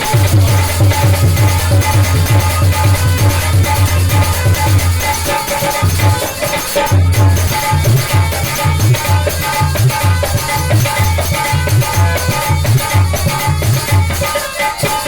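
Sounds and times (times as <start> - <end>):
held melody tones: 0.0 - 13.7
fast low drum rhythm: 0.0 - 14.4
jingling shaker percussion: 0.0 - 15.0.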